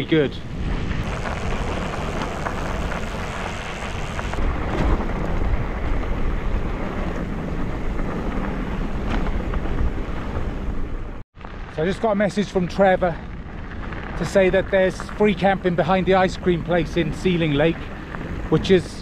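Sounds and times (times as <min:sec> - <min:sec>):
tyres rolling on gravel: 0:00.1 - 0:19.0.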